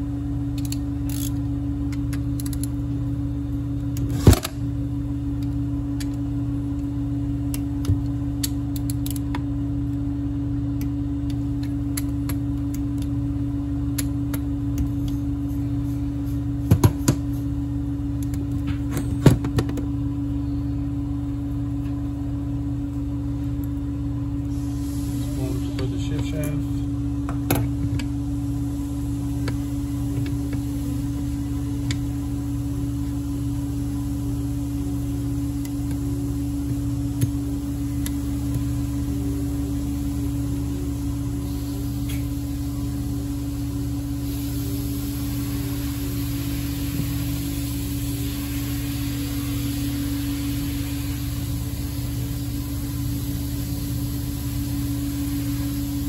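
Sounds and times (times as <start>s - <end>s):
steady hum over low drone: 0.0s - 56.0s.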